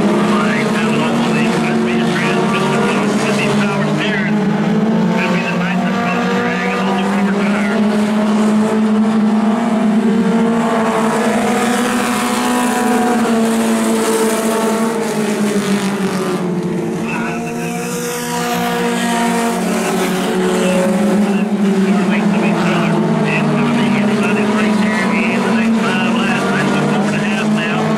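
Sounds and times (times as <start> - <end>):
race car engines: 0.0 - 27.9.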